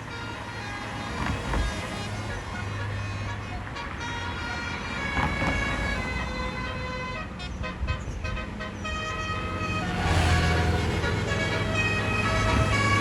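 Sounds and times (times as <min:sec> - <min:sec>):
bus engine running: 0:00.0 - 0:13.0
bus horn playing a tune: 0:00.0 - 0:13.0.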